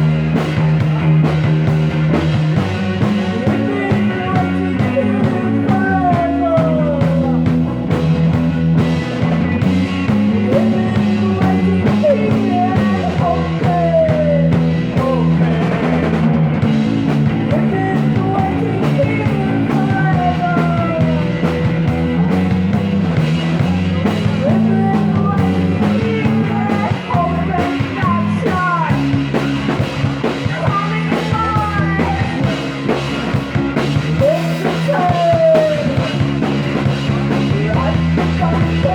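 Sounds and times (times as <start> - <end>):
bending lead guitar lines: 0.0 - 38.9
psychedelic rock band playing: 0.0 - 38.9
sustained low bass notes: 0.0 - 38.9.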